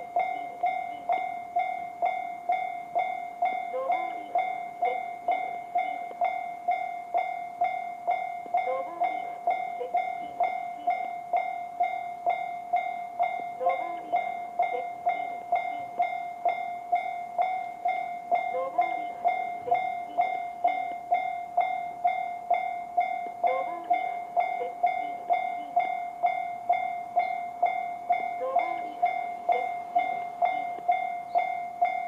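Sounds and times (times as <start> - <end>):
level crossing warning bell: 0.0 - 32.0.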